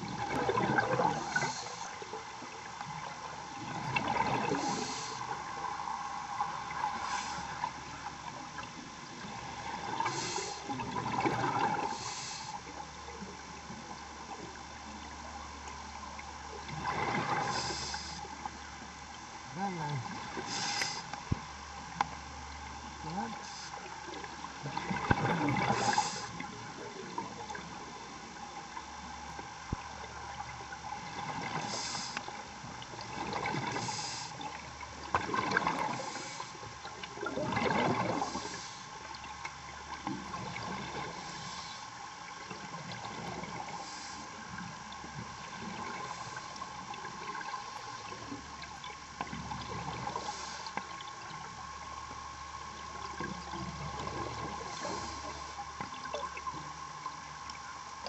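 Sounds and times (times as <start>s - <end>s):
steady hum: 0.0s - 58.0s
underwater bubbling water: 0.0s - 58.0s.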